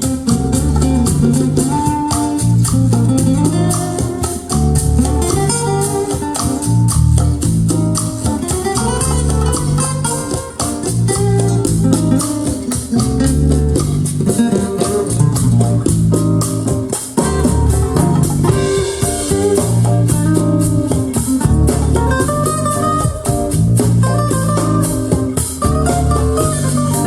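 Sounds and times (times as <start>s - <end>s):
jazz fusion music: 0.0s - 27.0s.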